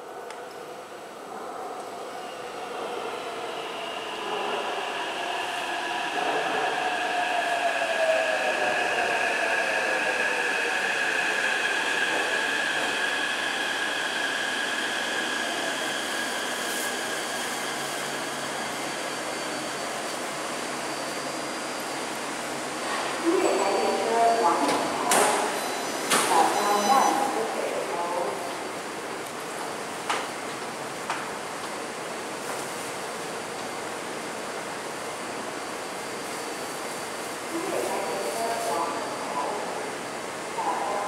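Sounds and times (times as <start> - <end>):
train arriving and braking: 0.0 - 41.0.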